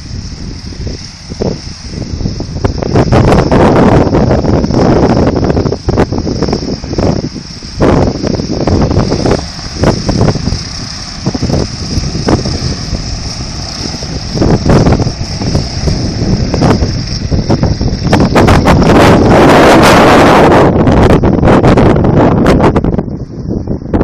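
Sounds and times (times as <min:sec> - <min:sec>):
propeller aircraft engine running: 0:00.0 - 0:24.0
wind buffeting microphone: 0:00.0 - 0:24.0.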